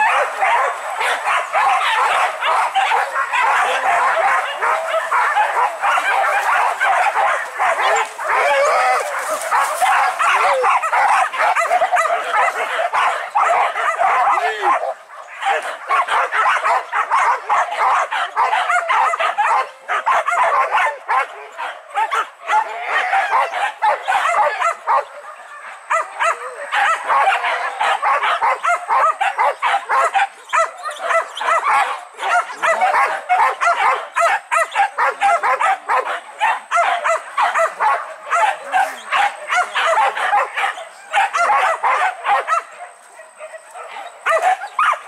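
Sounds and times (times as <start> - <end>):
dogs barking and yelping: 0.0 - 45.0.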